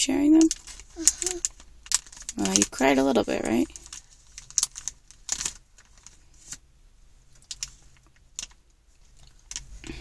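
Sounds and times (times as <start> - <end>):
low steady hum: 0.0 - 10.0
faint sharp clicks and rustles: 0.4 - 10.0.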